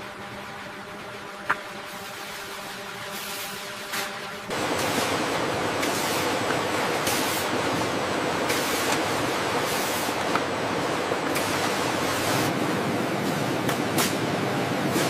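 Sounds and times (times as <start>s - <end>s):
factory machine noise: 0.0s - 15.0s.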